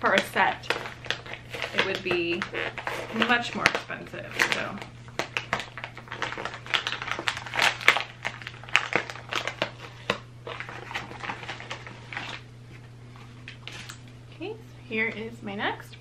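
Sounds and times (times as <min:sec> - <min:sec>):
packaging crinkling and rustling: 0:00.0 - 0:14.1
steady low hum: 0:00.0 - 0:16.0.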